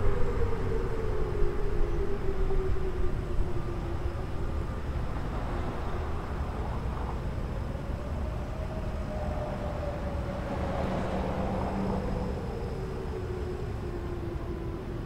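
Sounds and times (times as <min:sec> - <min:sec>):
distant sirens wailing: 0:00.0 - 0:15.0
low rumble of city noise: 0:00.0 - 0:15.0.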